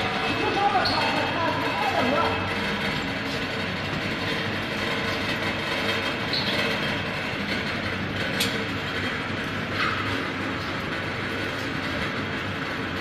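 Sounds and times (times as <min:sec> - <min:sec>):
machinery rattling and rumbling: 0:00.0 - 0:13.0.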